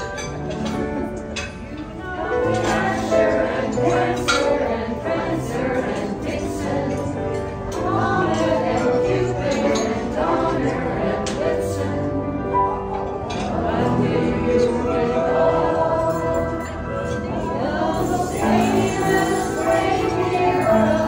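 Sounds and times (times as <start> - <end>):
group of carolers singing: 1.7 - 21.0.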